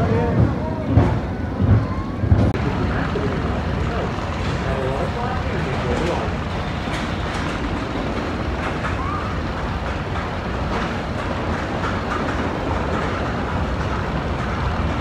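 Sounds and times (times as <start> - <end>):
roller coaster cars rumbling: 0.0 - 15.0.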